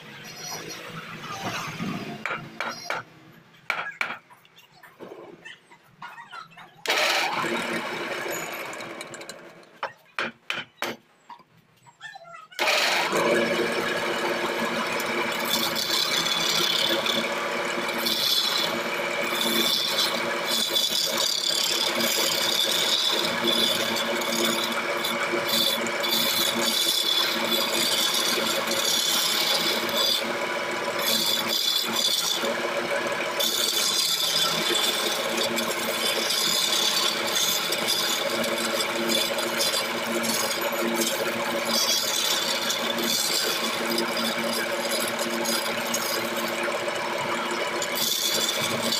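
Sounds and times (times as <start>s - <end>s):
wood lathe hum: 6.8s - 9.8s, 12.6s - 48.9s.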